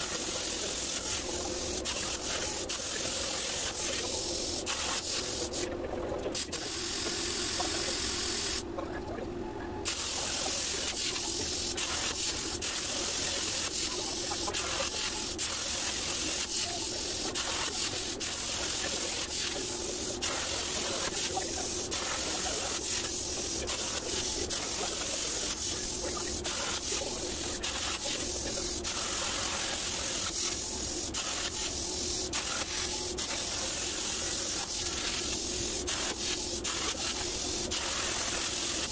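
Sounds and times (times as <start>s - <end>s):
plasma arc hissing: 0.0s - 5.7s, 6.4s - 8.6s, 9.8s - 38.9s
low machine hum: 0.0s - 38.8s.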